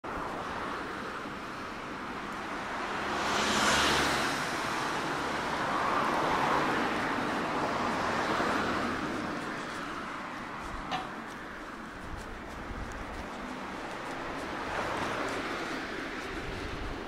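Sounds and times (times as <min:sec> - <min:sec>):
cars passing by: 0:00.1 - 0:17.0.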